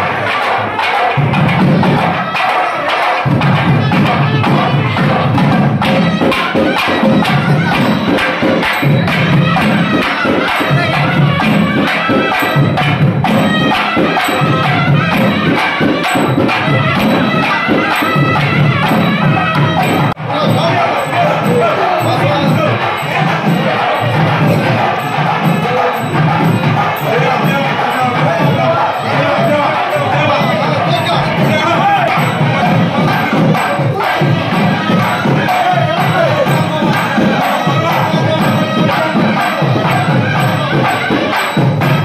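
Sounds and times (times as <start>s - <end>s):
crowd noise: 0.0s - 42.0s
drums beating fast rhythm: 0.0s - 42.0s
metallic percussion: 0.0s - 42.0s.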